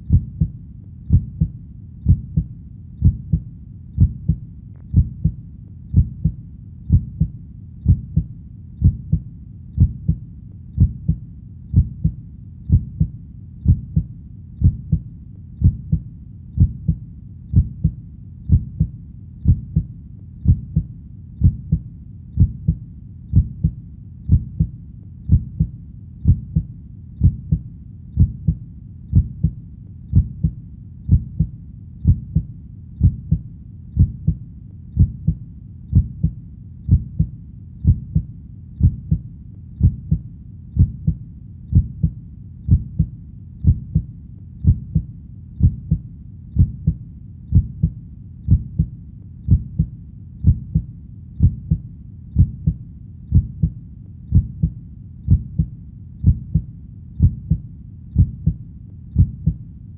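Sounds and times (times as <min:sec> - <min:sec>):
heartbeat thumps: 0:00.0 - 0:59.6
faint low rumble: 0:00.0 - 0:59.9.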